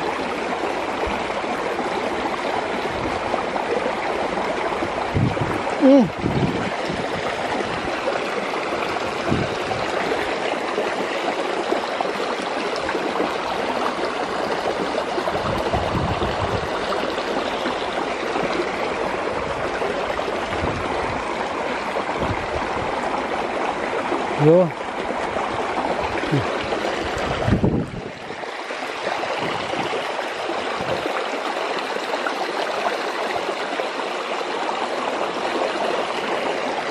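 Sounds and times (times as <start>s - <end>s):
stream rushing over rocks: 0.0s - 36.9s.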